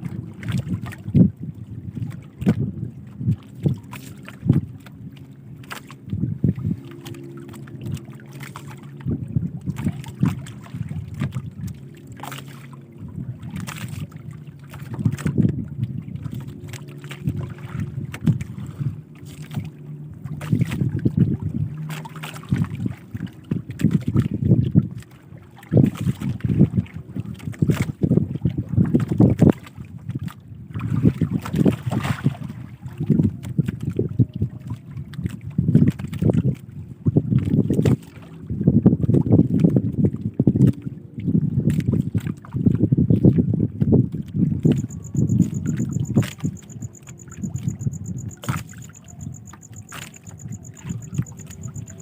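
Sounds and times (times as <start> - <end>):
boat motor low hum: 0.0 - 52.0
water splashes: 0.0 - 52.0.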